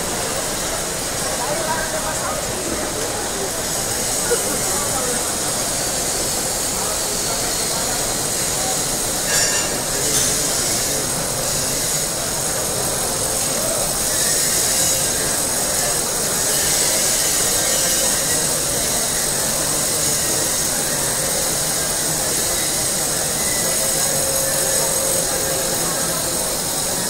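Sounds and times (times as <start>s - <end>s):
crowd walking through hall: 0.0s - 27.0s.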